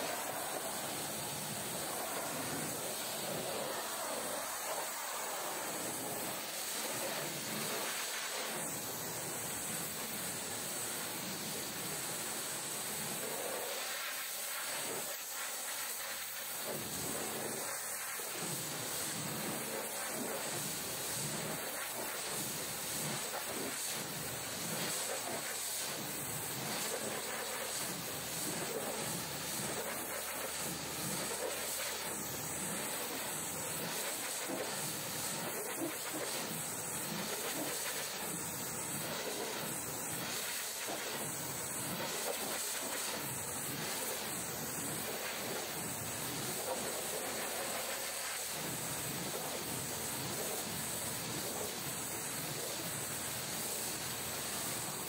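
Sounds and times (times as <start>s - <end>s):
pressure washer spraying: 0.0s - 12.2s, 12.8s - 55.0s.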